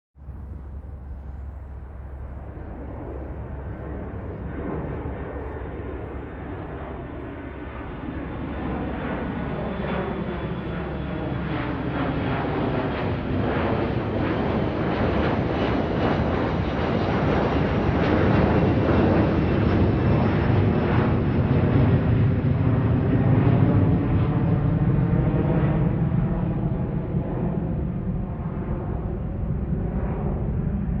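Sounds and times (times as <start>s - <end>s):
airplane engine noise: 0.2s - 31.0s.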